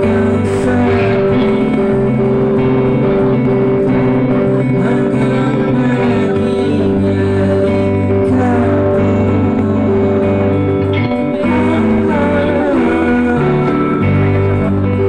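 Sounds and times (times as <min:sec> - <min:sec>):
live band playing calm song: 0:00.0 - 0:15.0.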